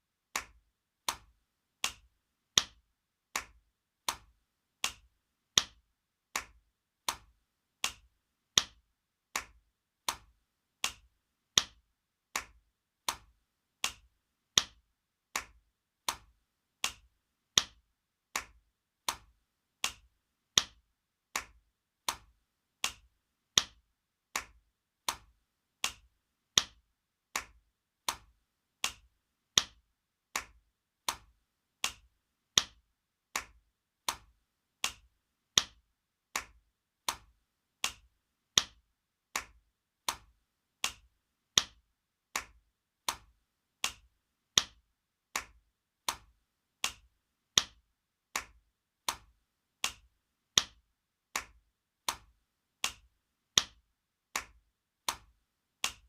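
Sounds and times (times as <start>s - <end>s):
hand slapping skin: 0.3s - 53.8s, 54.4s - 56.0s.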